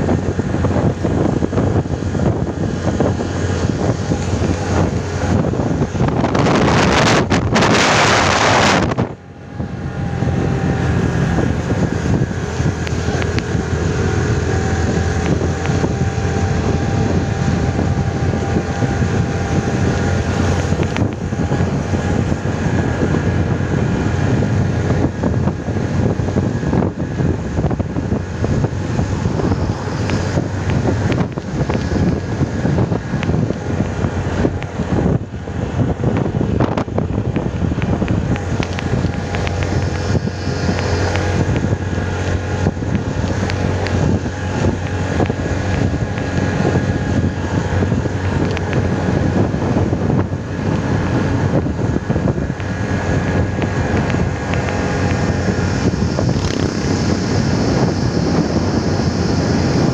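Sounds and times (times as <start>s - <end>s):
motorcycle engine running: 0.0s - 59.9s
road noise: 0.0s - 59.9s
wind buffeting microphone: 0.0s - 59.9s.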